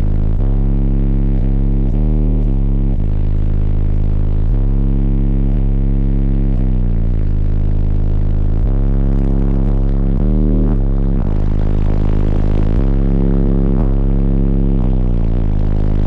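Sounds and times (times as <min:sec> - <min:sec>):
bass-heavy music through subwoofers: 0:00.0 - 0:16.0.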